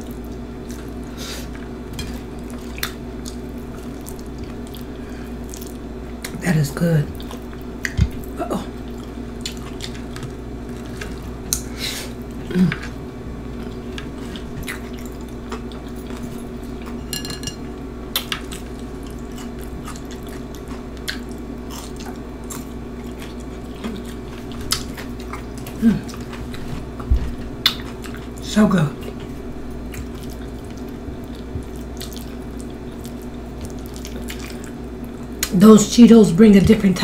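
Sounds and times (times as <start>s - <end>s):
chewing with mouth clicks: 0.0s - 6.4s, 7.1s - 11.7s, 12.3s - 17.0s, 18.1s - 28.4s, 29.0s - 35.6s
steady low hum: 0.0s - 37.0s.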